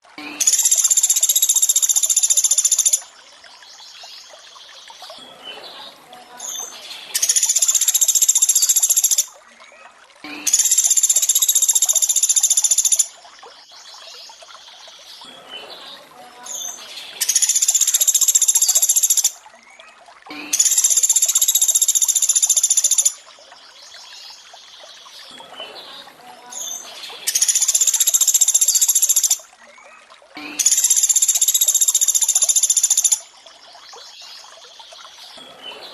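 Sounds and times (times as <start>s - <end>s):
trickle of running water: 0.0s - 35.9s.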